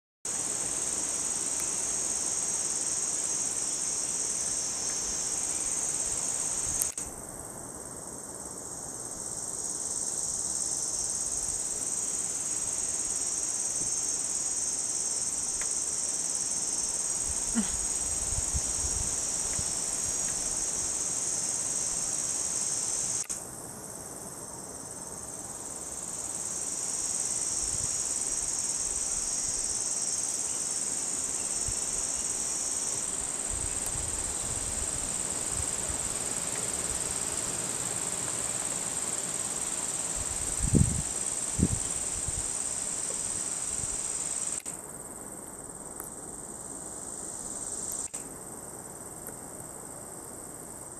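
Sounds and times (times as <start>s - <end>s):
insect chorus drone: 0.3s - 50.9s.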